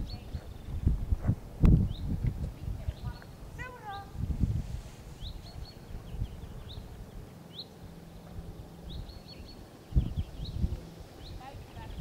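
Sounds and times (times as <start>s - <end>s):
low background rumble: 0.0s - 12.0s
small birds chirping: 0.0s - 12.0s.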